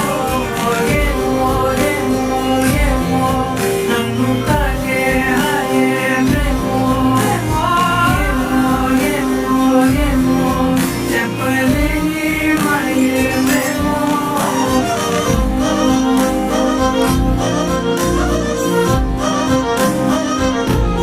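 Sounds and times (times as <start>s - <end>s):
film song music with beat: 0.0s - 21.0s.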